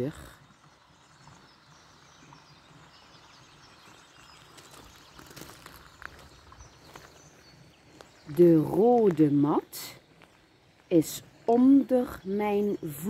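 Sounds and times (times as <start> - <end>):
small birds chirping: 0.0 - 13.0
soft footsteps on mat path: 0.1 - 12.2.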